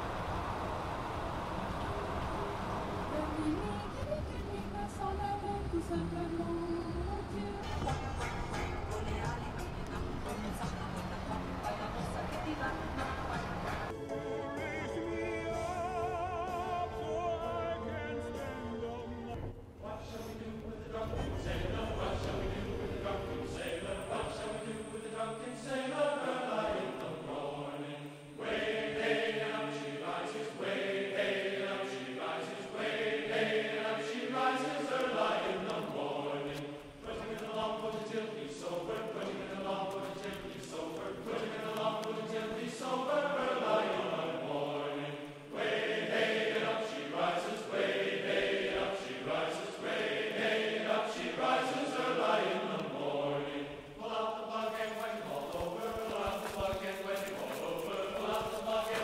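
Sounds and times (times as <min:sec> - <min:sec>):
chant-like vocal music: 0:01.4 - 0:59.0.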